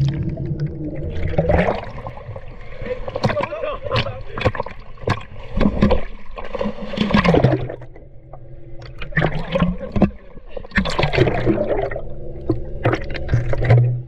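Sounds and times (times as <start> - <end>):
underwater churning and bubbling: 0.0 - 14.0.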